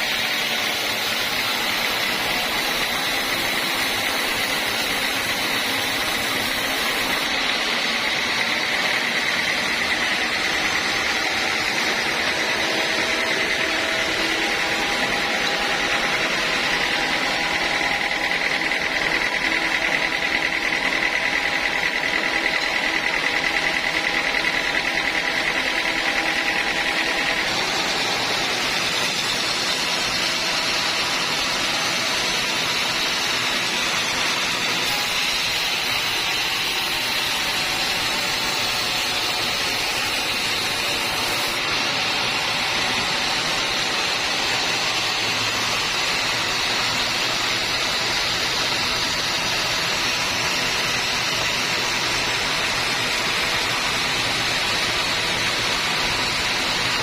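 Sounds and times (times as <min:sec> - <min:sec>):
band saw blade cutting log: 0:00.0 - 0:57.0.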